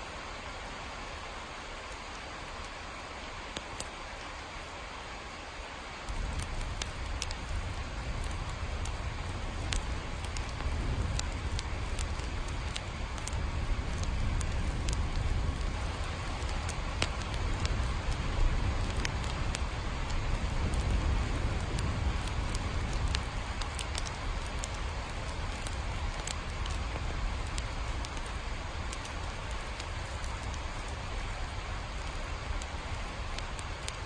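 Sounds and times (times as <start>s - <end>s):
steady rain hiss: 0.0s - 34.0s
sharp drip ticks: 3.5s - 4.3s, 6.0s - 34.0s.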